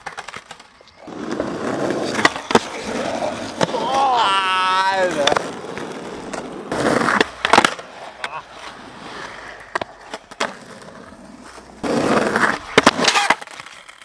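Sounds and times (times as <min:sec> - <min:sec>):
skateboard deck clacking: 0:00.0 - 0:14.0
skateboard wheels rolling on concrete: 0:00.0 - 0:14.0.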